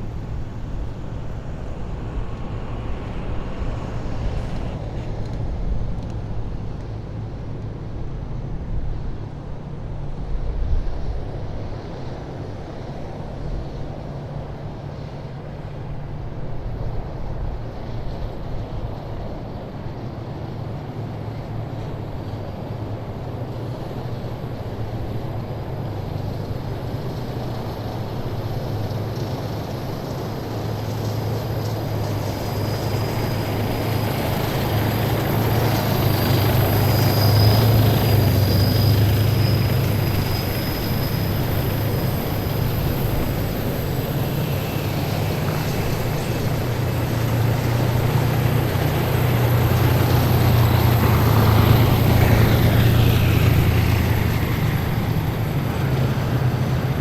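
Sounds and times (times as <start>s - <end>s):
high engine whine: 0.0s - 57.0s
military vehicle engines humming: 0.0s - 57.0s.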